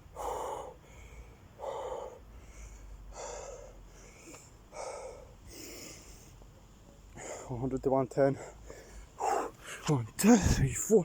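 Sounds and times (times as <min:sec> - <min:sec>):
man breathing hard: 0:00.0 - 0:06.4, 0:07.1 - 0:07.6, 0:08.4 - 0:10.6.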